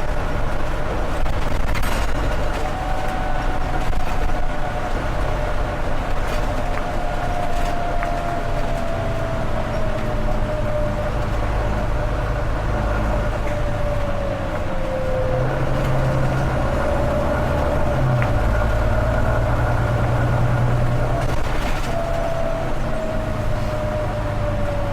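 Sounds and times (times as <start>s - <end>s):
bus diesel engine rumble: 0.0s - 24.9s.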